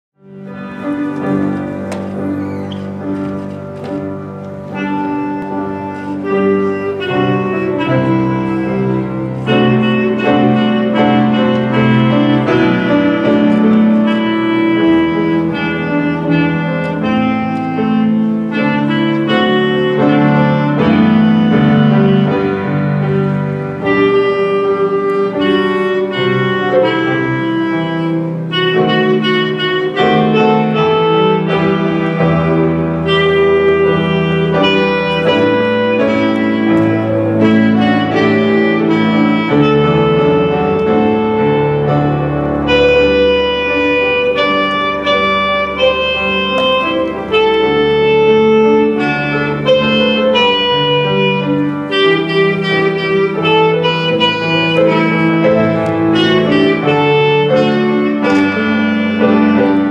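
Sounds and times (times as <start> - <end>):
clarinet melody: 0.2 - 59.9
piano accompaniment: 0.2 - 59.9.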